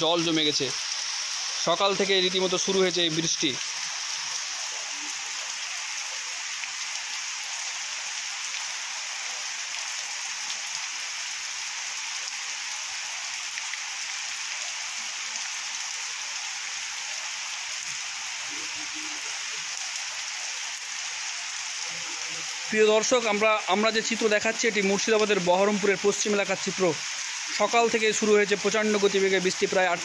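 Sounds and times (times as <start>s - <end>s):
heavy rain on standing water: 0.0s - 30.0s.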